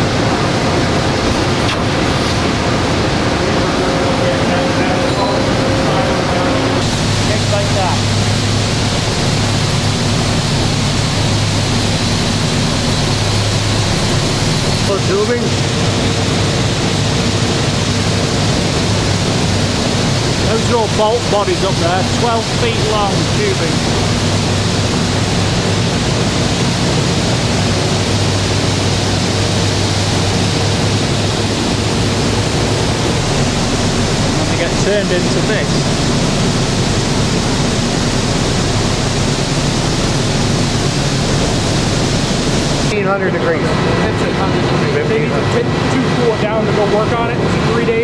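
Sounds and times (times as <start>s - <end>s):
factory machinery din: 0.0s - 48.0s
low hum: 0.0s - 48.0s.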